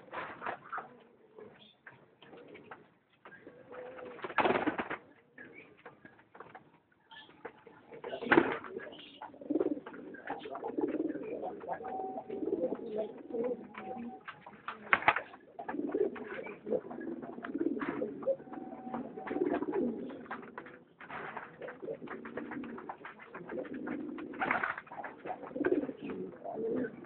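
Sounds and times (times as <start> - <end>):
pigeons cooing: 0.6 - 4.5, 7.9 - 27.0.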